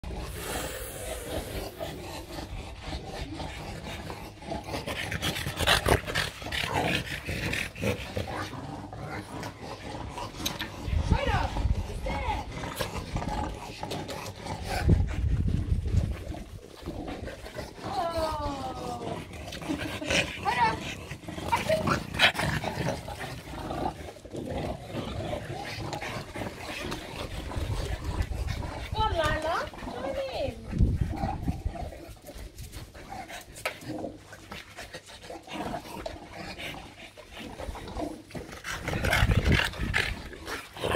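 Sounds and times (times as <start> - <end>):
dogs breathing and snuffling: 0.0 - 40.9.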